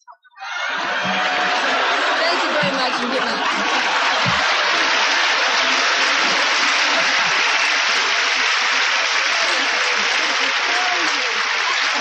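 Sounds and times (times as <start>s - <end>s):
large audience applauding: 0.5s - 12.0s.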